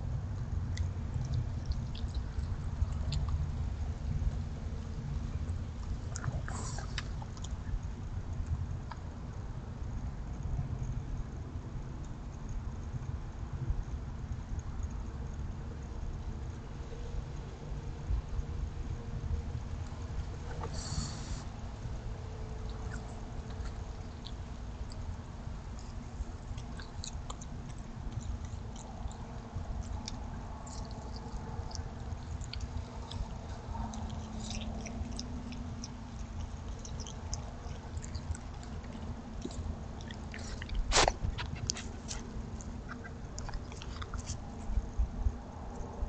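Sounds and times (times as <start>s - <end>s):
raccoon crunching food: 0.0s - 46.0s.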